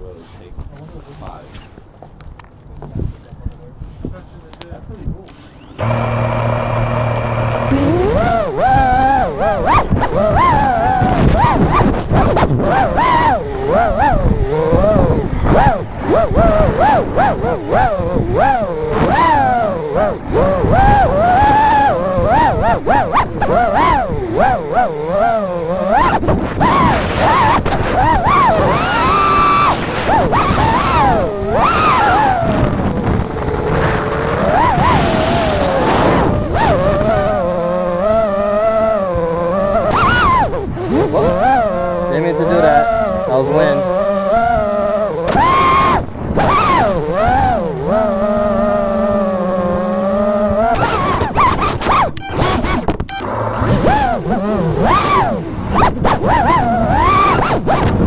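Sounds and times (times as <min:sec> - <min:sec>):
wind noise: 0:00.0 - 0:58.0
quadcopter motors whining: 0:05.2 - 0:58.0.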